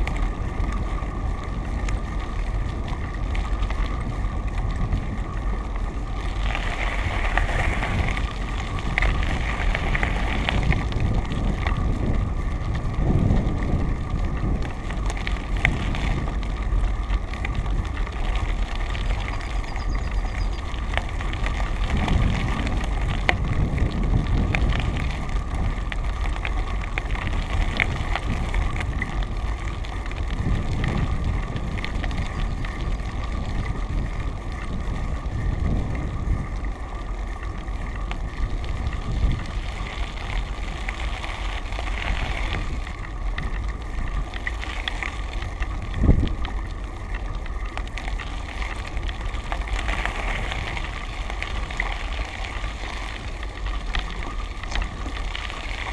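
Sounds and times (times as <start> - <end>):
road noise from vehicle: 0.0 - 55.9
wind buffeting microphone: 0.0 - 55.9.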